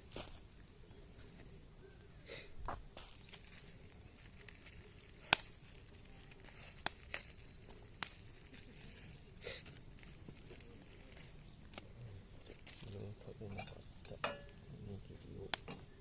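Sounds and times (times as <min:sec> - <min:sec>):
small fire crackling: 0:00.0 - 0:16.0
sharp pops of burning wood: 0:02.6 - 0:16.0.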